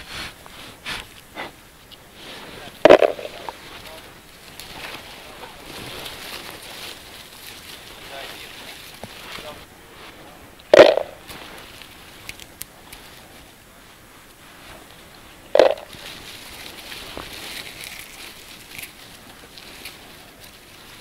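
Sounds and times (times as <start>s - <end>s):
bushes rustling and crackling: 0.0s - 21.0s.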